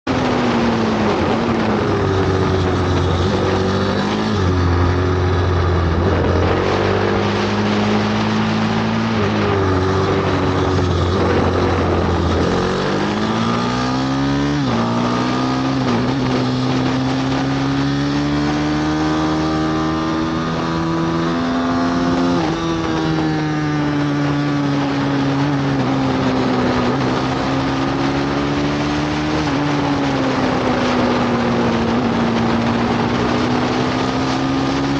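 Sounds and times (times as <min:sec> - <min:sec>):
pit bike engine revving: 0:00.6 - 0:34.9.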